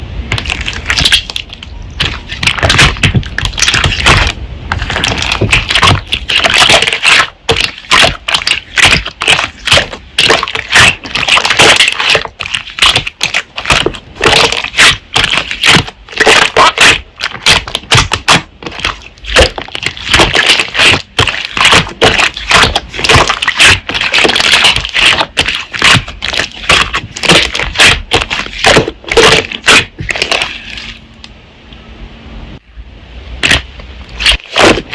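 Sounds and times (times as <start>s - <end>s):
slime squeezed crackling: 0.3s - 31.0s.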